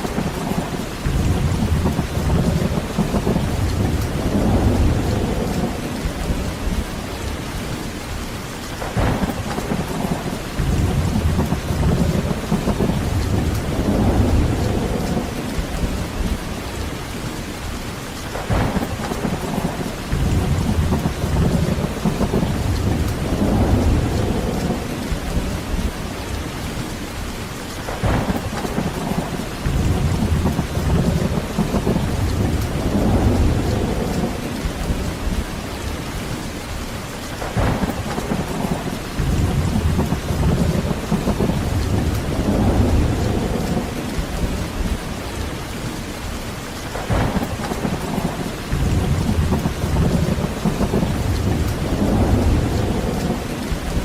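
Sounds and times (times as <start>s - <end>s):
thunder cracks and rumble: 0.0s - 7.7s, 8.8s - 17.2s, 18.3s - 26.5s, 27.8s - 36.4s, 37.3s - 46.0s, 46.8s - 54.0s
heavy steady rain: 0.0s - 54.0s.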